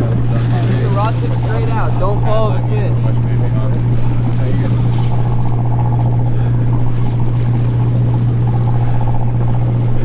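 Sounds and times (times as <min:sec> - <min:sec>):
boat engine humming: 0:00.0 - 0:10.0
water sounds: 0:00.0 - 0:10.0.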